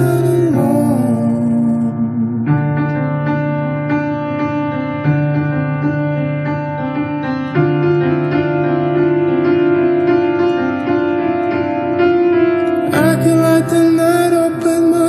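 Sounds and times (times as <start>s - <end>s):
instrumental pop music: 0.0s - 15.0s.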